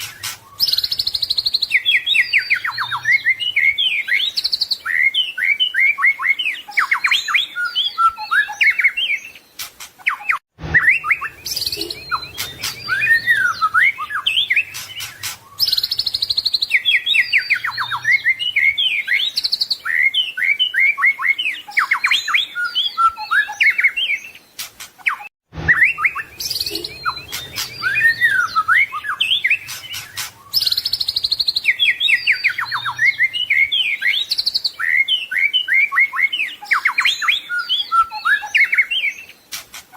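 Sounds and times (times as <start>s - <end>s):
bird singing whistled song: 0.0s - 39.7s.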